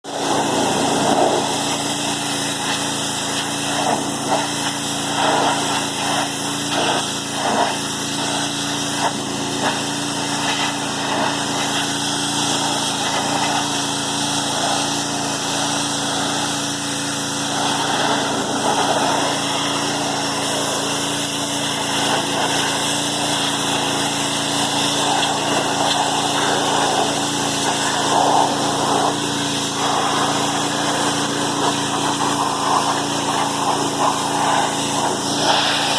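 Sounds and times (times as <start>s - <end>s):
pressure washer motor: 0.0s - 35.9s
hiss of water jet: 0.1s - 35.9s.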